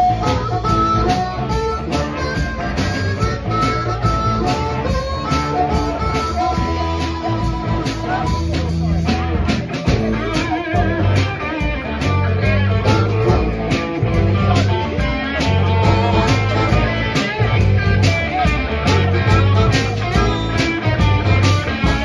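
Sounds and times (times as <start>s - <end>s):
drums keeping steady beat: 0.0s - 22.0s
electric guitar lines: 0.0s - 22.0s
repeating bass figure: 0.0s - 22.0s.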